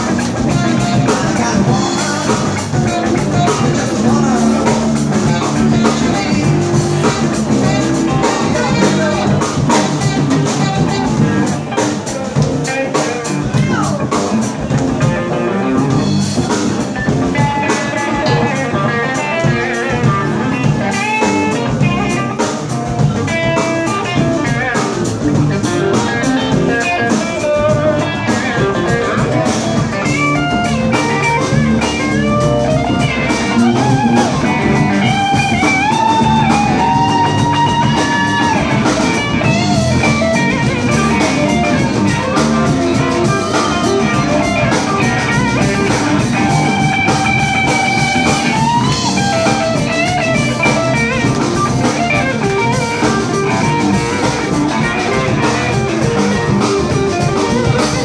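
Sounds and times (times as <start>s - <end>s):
band playing blues-rock: 0.0s - 58.0s
lead guitar bending notes: 0.0s - 58.0s.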